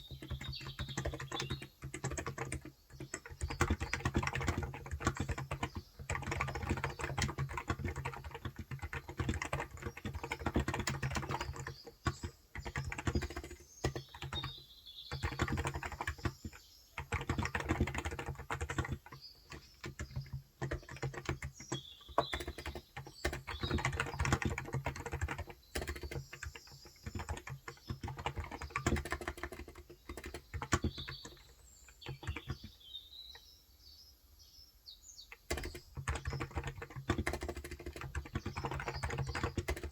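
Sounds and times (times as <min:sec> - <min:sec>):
typing on keyboard: 0:00.0 - 0:32.8, 0:35.3 - 0:39.9
birds chirping faintly: 0:00.0 - 0:39.9.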